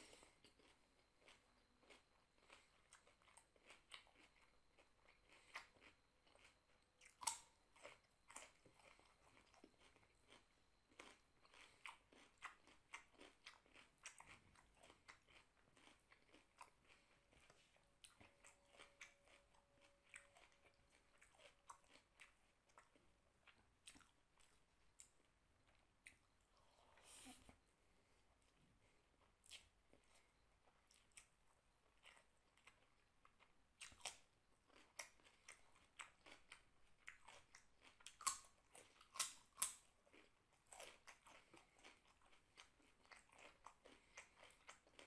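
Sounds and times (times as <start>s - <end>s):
crisp chewing crunches: 0.0s - 26.2s, 29.2s - 45.0s.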